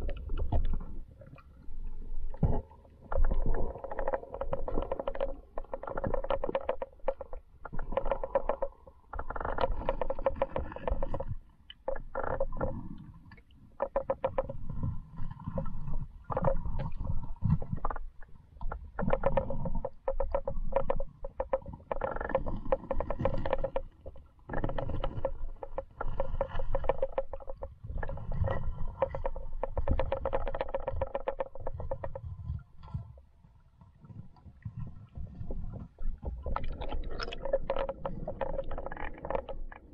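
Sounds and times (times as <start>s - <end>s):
small underwater clicks and knocks: 0.0s - 39.9s
underwater river rumbling: 0.0s - 39.9s.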